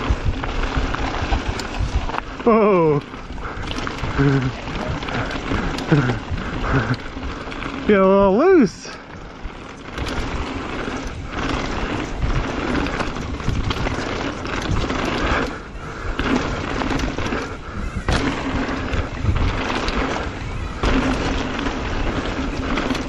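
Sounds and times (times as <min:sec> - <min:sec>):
bike rattling over bumps: 0:00.0 - 0:23.0
bike tyres rumbling on dirt: 0:00.0 - 0:23.0.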